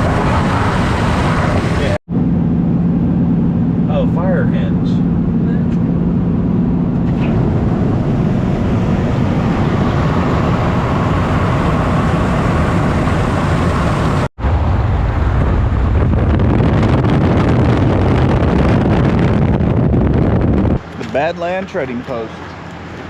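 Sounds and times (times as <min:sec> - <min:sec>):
road rumble: 0:00.0 - 0:23.0
vehicle engine: 0:00.0 - 0:23.0
wind: 0:00.0 - 0:23.0.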